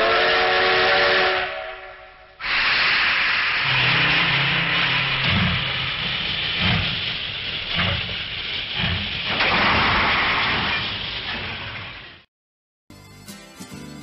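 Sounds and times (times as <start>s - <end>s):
steam locomotive hissing: 0.0s - 12.2s.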